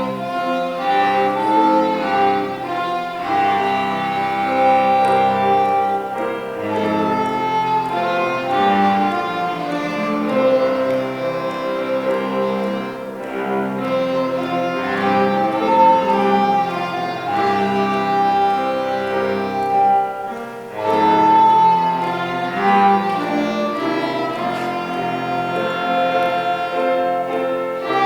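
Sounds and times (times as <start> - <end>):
violin cello and ocarina waltz: 0.0 - 28.0.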